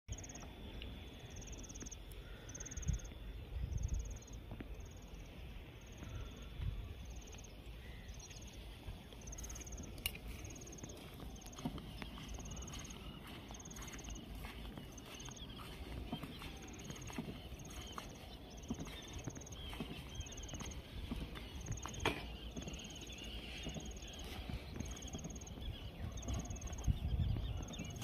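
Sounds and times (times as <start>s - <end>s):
insect chirping in pulsed trills: 0.1s - 28.0s
wind rumble on microphone: 2.7s - 28.0s.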